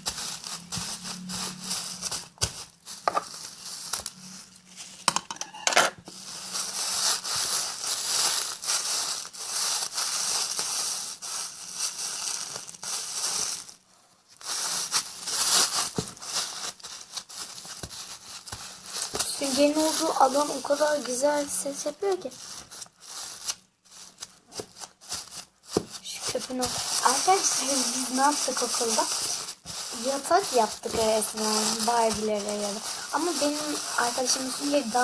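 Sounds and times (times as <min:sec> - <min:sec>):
wet sponge crinkling in plastic bag: 0:00.0 - 0:05.1, 0:06.0 - 0:35.0.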